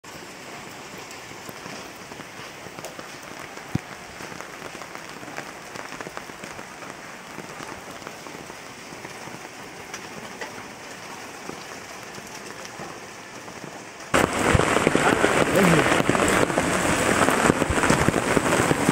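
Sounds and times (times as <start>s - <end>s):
rain falling on water: 0.0s - 18.9s.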